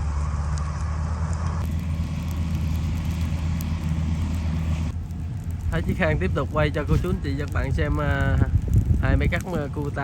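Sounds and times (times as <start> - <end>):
combine harvester engine hum: 0.0 - 10.0.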